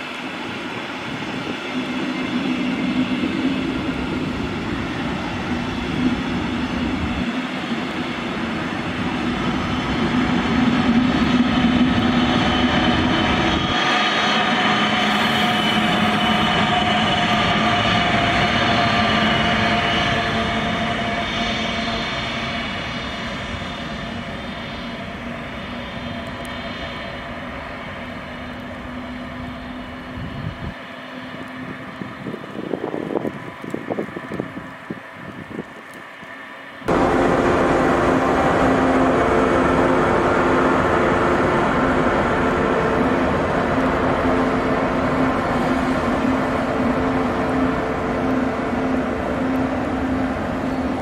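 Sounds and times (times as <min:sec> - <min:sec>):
train running past: 0:00.0 - 0:51.0.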